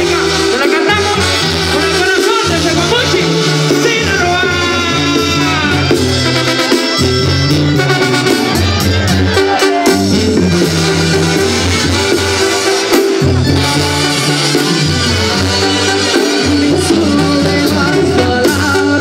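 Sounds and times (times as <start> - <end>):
brass band playing: 0.0 - 19.0
tuba bass line: 0.0 - 19.0.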